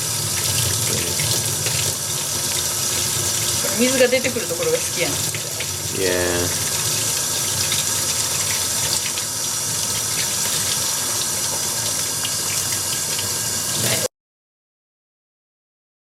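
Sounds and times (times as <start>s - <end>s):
kitchen tap running into sink: 0.0s - 14.1s.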